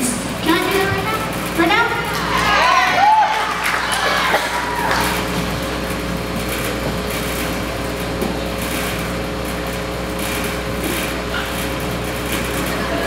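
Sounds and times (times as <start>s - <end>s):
constant steady tones: 0.0s - 13.0s
steady hum: 0.0s - 13.0s.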